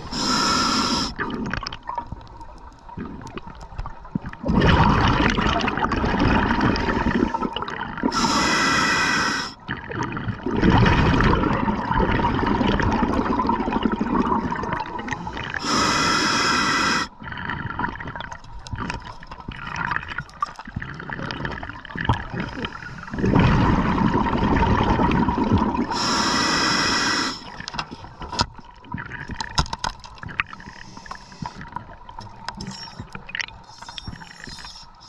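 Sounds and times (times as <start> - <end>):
muffled churning water: 0.0 - 35.0.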